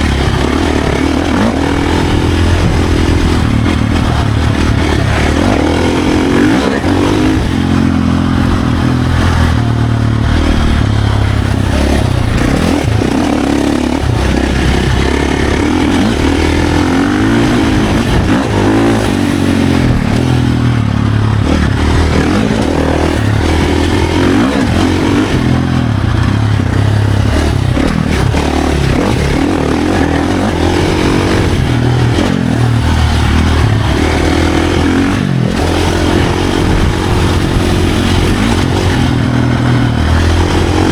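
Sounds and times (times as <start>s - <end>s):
dense rushing noise: 0.0s - 40.9s
dirt bike engine revving: 0.0s - 40.9s.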